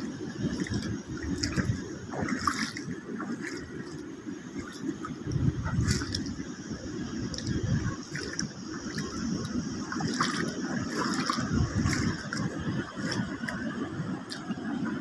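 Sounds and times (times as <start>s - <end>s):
sea water washing among rocks: 0.0s - 14.9s.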